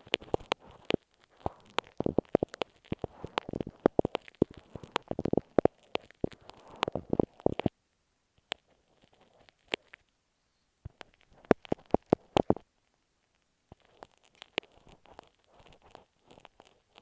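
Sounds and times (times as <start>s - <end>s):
glue stick crackling on tape: 0.0s - 7.7s, 8.4s - 10.1s, 10.8s - 17.0s.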